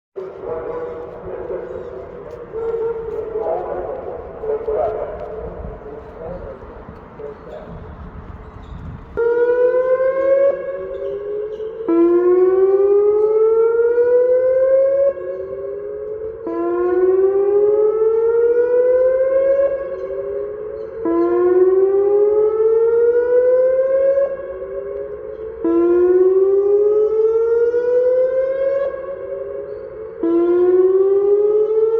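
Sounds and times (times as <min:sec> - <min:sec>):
wailing warning siren: 0:00.2 - 0:31.9.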